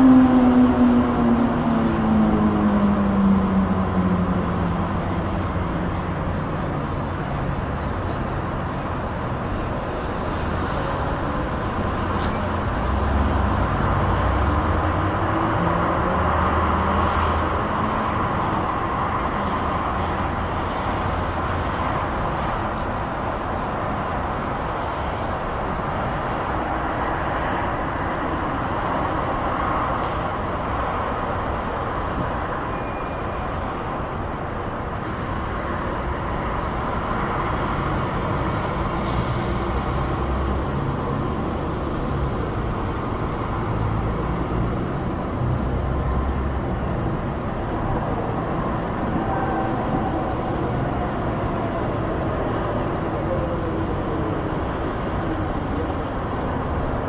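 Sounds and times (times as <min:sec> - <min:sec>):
distant motorway traffic: 0:00.0 - 0:57.0.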